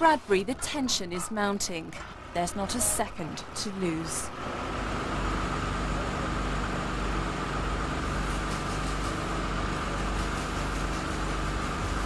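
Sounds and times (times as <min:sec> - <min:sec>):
crane engine droning: 0:00.3 - 0:12.0.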